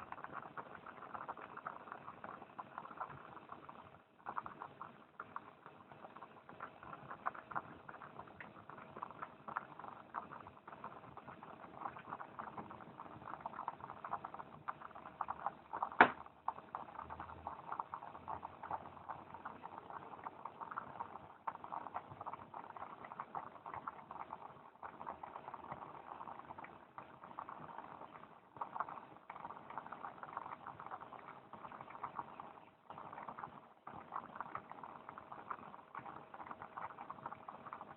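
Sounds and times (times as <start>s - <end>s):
food crackling and sizzling over fire: 0.0s - 37.9s.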